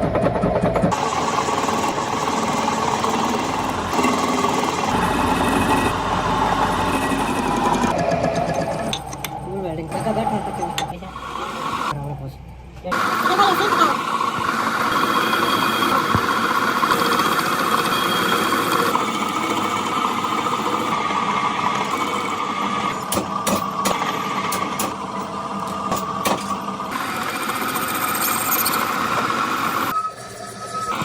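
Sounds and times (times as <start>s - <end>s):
workshop machinery whining: 0.0s - 31.0s.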